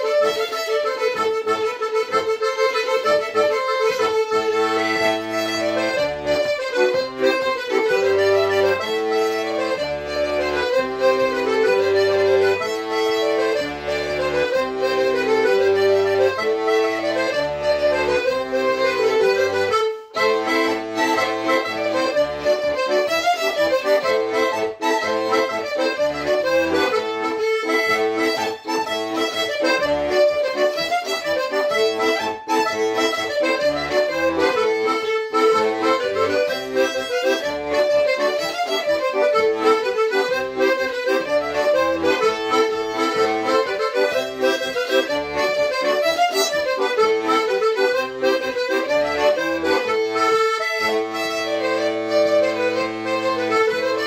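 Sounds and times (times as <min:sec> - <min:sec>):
button accordion: 0:00.0 - 0:54.0
violin: 0:00.0 - 0:54.0.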